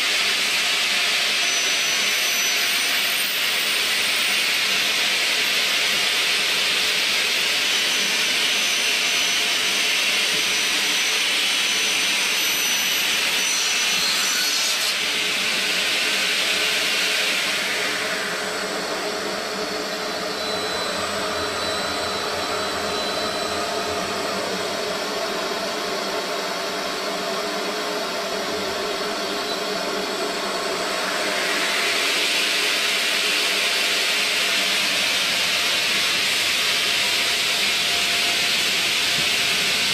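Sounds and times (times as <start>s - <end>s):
machine saw whining and hissing: 0.0s - 39.9s.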